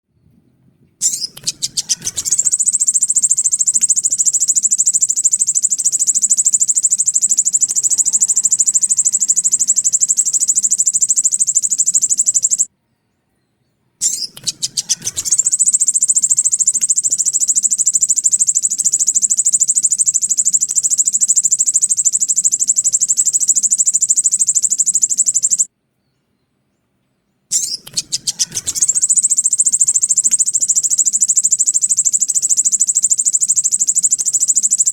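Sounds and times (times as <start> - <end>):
high rapid bird trill: 1.0 - 12.7, 14.0 - 25.7, 27.5 - 34.9.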